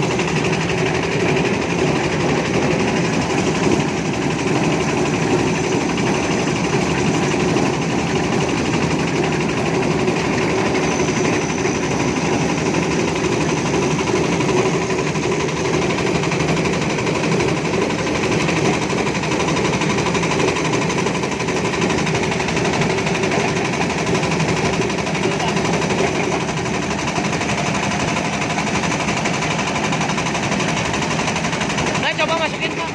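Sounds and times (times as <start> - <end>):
small engine running: 0.0 - 32.9.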